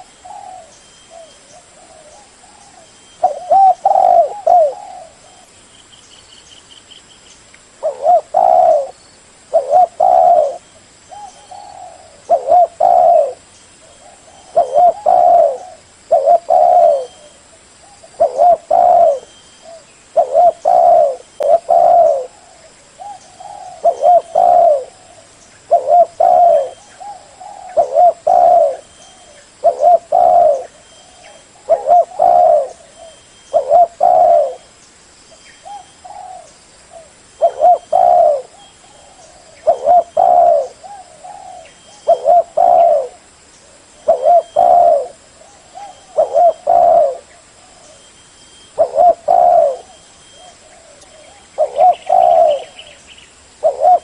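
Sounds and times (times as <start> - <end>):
dove cooing: 0.0 - 5.6, 7.8 - 34.7, 35.6 - 54.0.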